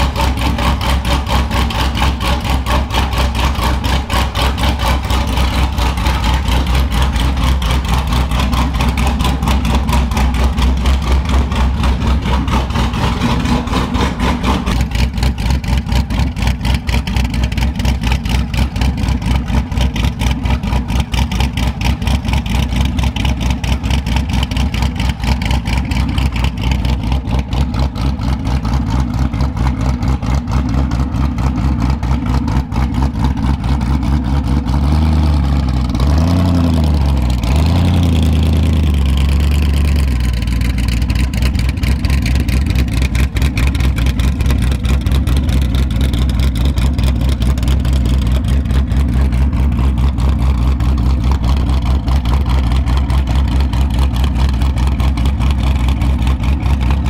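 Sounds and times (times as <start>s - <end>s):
motorcycle engine idling unevenly: 0.0s - 34.8s, 38.2s - 57.0s.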